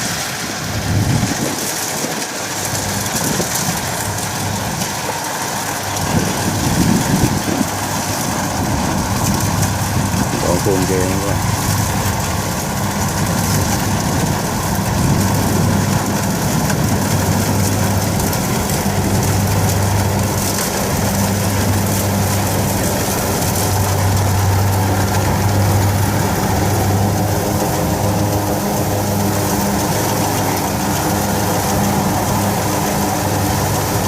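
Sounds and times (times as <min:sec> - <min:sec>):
diesel engine hum: 0:00.0 - 0:34.0
rushing noise of threshing machinery: 0:00.0 - 0:34.0.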